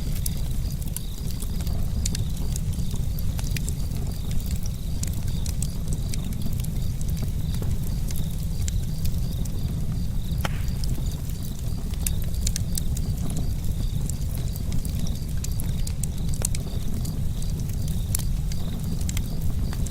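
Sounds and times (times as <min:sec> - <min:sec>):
campfire crackling: 0:00.0 - 0:19.9
low fire rumble: 0:00.0 - 0:19.9.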